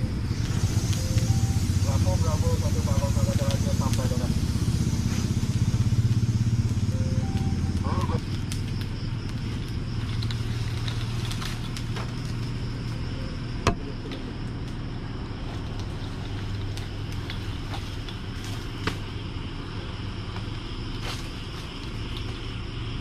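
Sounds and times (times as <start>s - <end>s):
crackles and snaps of burning nest: 0.0s - 23.0s
idling engine hum: 0.0s - 23.0s.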